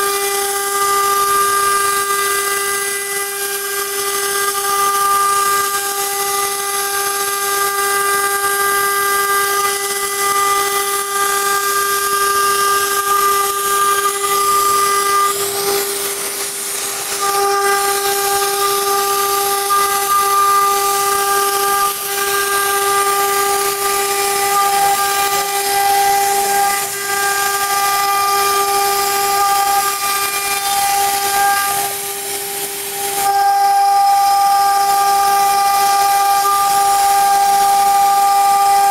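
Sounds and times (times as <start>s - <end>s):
router spindle whine: 0.0s - 38.9s.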